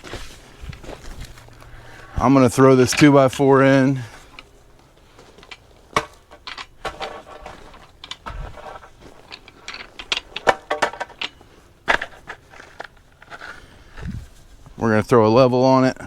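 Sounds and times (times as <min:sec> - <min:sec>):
gravel crunching and clicking: 0:00.0 - 0:14.8.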